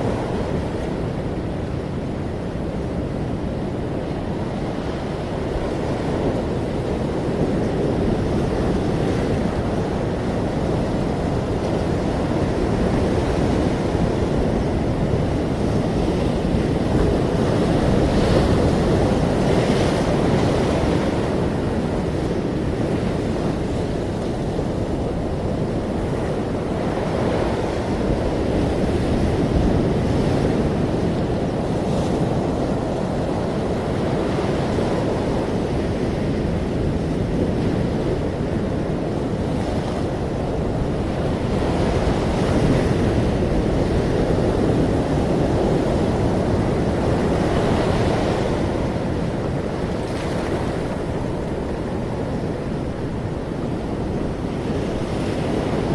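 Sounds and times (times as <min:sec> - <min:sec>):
ocean waves washing in: 0:00.0 - 0:55.9.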